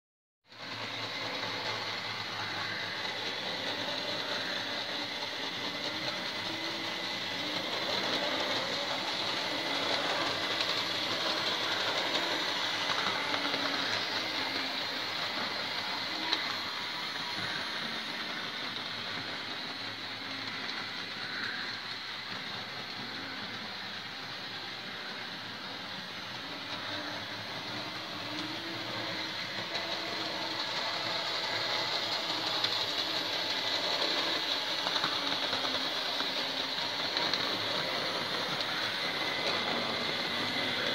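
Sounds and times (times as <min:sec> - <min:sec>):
model train running on rails: 0:00.5 - 0:40.9.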